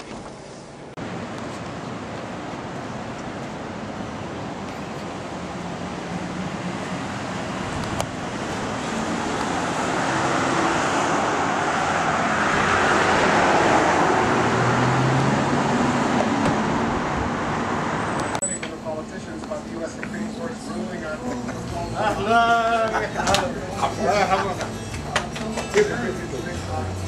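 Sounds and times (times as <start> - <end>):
passing cars: 1.0 - 27.0.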